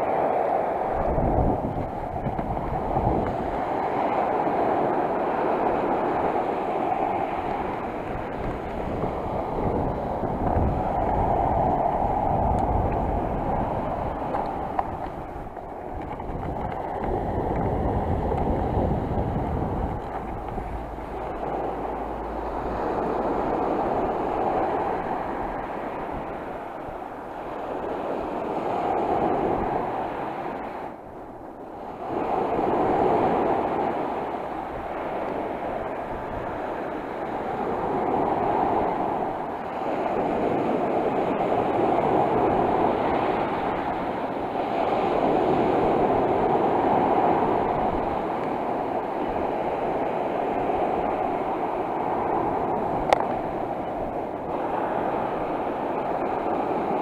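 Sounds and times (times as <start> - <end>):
sea surf washing in: 0.0 - 57.0
wind rumbling on microphone: 0.0 - 57.0.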